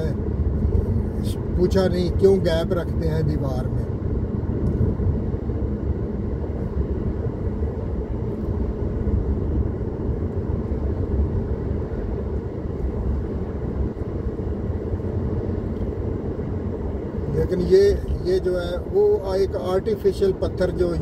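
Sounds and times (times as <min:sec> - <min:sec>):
car tyres and engine rumble: 0:00.0 - 0:21.0.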